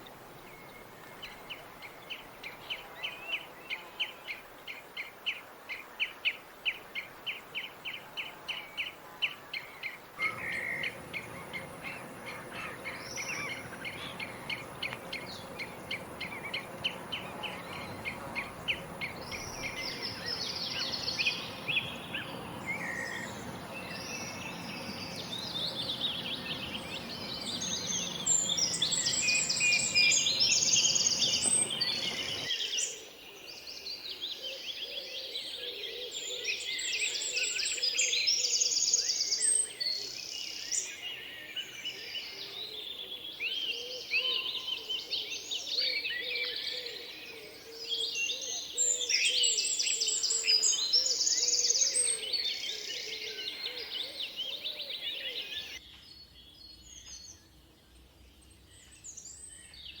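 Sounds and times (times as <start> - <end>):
tropical birds chirping and trilling: 6.9 - 60.0.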